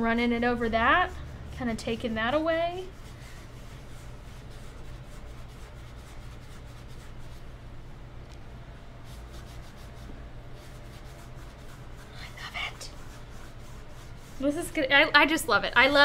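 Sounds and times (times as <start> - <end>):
paper towel rubbing on chair: 0.0 - 7.6, 9.0 - 16.0
steady low hum: 0.0 - 16.0.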